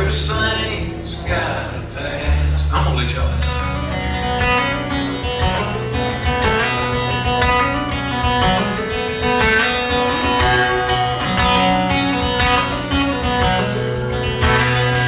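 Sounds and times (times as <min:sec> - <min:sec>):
solo acoustic guitar: 0:00.0 - 0:15.0.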